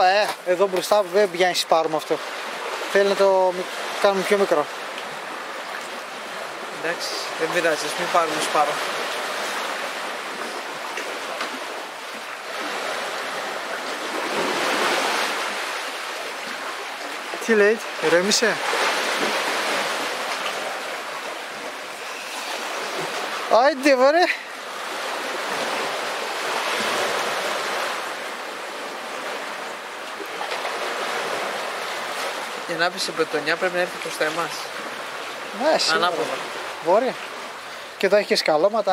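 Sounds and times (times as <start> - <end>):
waves washing on pebbles: 0.0 - 37.6.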